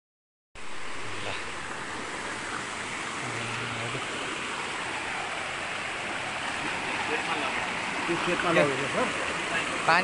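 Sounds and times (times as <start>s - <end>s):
stream rushing over rocks: 0.6s - 10.0s.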